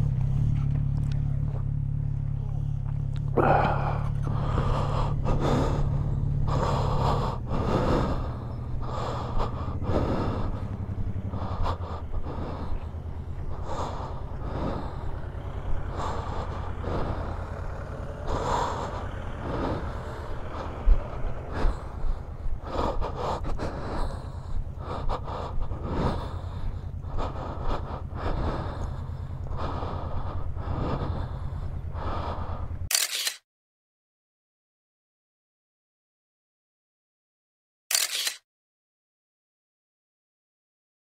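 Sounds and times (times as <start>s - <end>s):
motorcycle engine humming: 0.0s - 32.9s.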